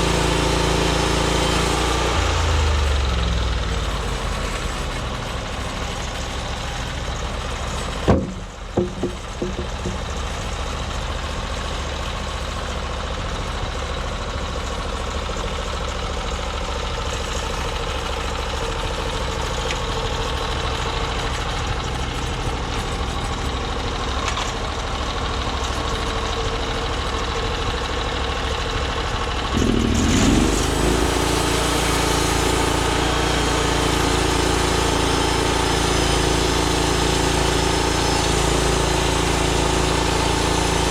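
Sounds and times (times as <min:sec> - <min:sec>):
small gas engine running: 0:00.0 - 0:40.9.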